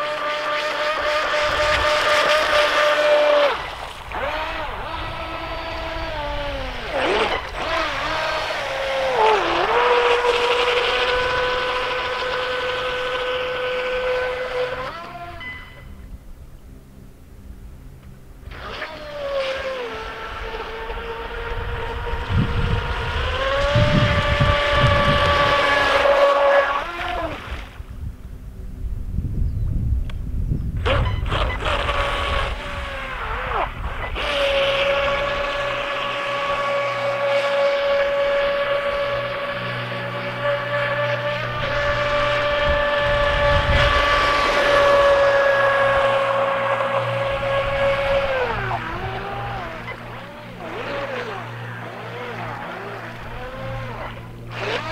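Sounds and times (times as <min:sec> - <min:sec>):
boat motor whining: 0:00.0 - 0:29.1, 0:30.0 - 0:54.9.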